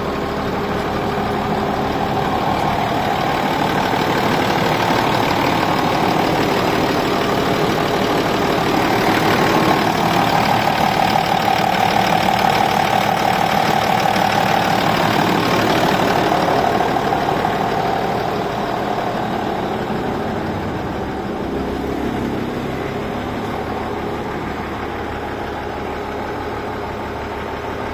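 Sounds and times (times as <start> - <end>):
diesel engine idling: 0.0 - 27.9.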